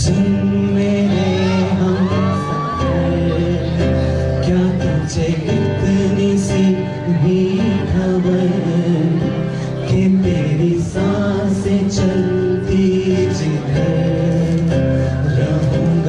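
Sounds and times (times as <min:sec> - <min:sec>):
guitar accompaniment: 0:00.0 - 0:16.0
man singing: 0:00.0 - 0:16.0.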